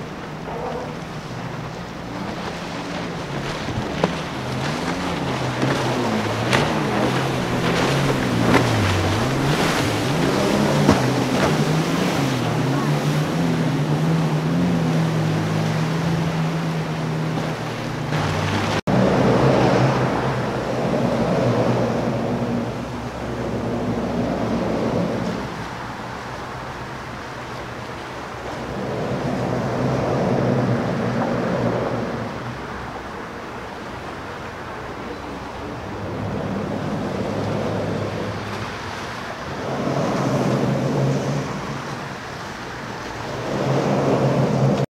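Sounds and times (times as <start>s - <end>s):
jet ski engine drone: 0.0s - 44.9s
jet ski passing: 0.0s - 44.9s
water wash: 0.0s - 44.9s
wind on microphone: 0.0s - 44.9s.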